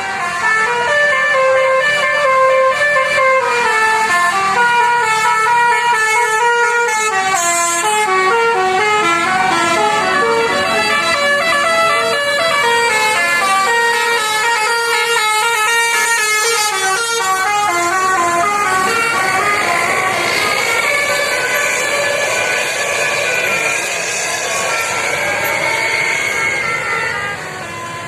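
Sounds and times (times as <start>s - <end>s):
bus horn playing a melody: 0.0s - 22.8s.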